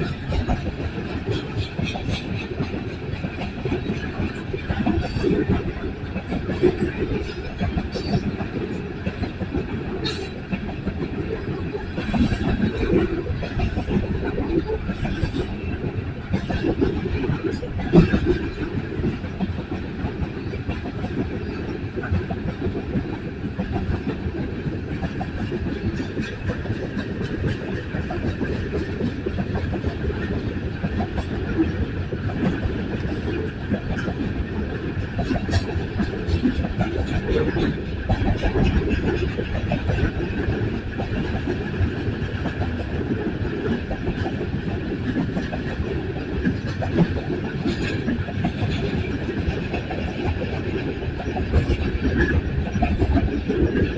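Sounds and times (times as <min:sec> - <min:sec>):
train cars rumbling: 0:00.0 - 0:53.9
wheels clicking over rail joints: 0:00.0 - 0:53.9.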